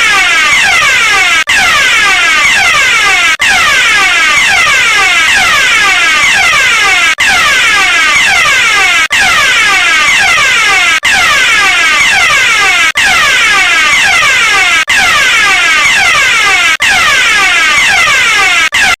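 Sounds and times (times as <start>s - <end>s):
electronic fire alarm sweeps: 0.0s - 19.0s.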